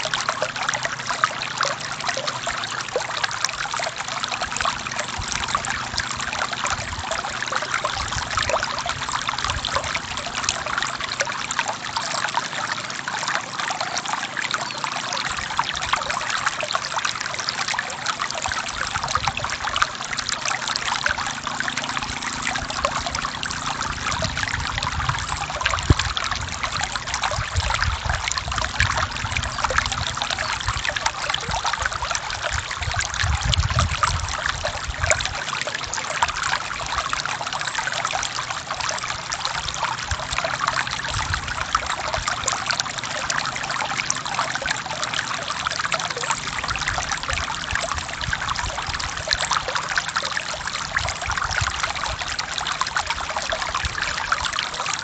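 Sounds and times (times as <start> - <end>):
low water churning: 0.0 - 55.0
stream flowing over rocks: 0.0 - 55.0.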